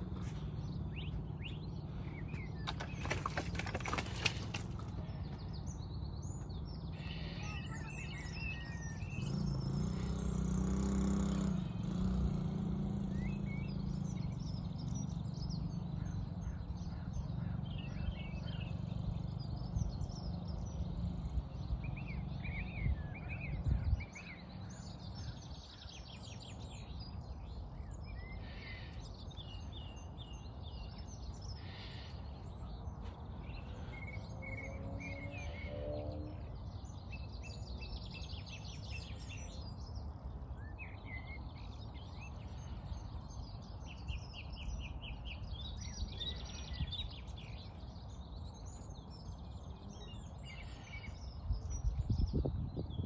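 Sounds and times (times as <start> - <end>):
low outdoor rumble: 0.0 - 53.0
songbirds chirping and singing: 0.0 - 53.0.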